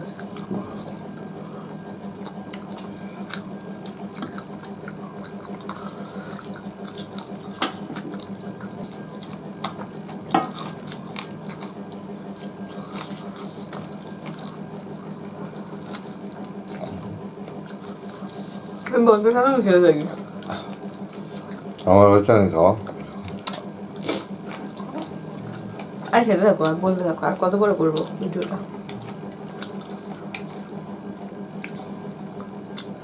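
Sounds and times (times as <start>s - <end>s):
wet chewing and mouth sounds: 0.0s - 19.3s, 20.0s - 22.0s, 22.8s - 33.0s
steady low hum: 0.0s - 33.0s.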